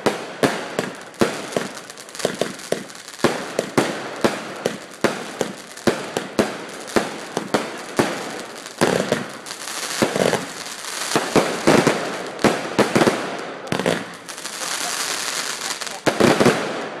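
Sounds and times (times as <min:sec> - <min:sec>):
firework bangs: 0:00.0 - 0:17.0
firework crackling: 0:00.0 - 0:17.0.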